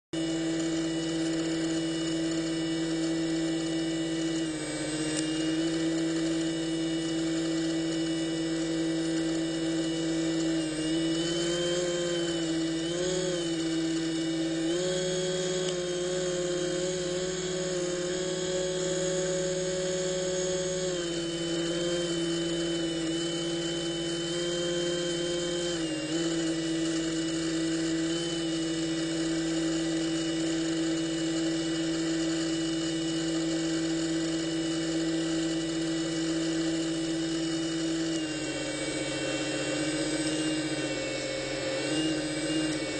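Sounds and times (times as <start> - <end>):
electric motor whining underwater: 0.2 - 42.9.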